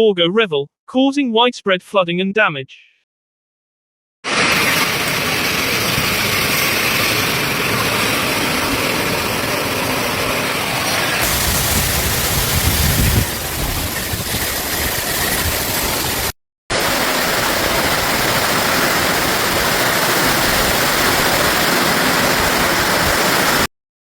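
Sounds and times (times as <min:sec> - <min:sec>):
wind: 0:04.2 - 0:23.7
heavy rain: 0:04.3 - 0:23.7.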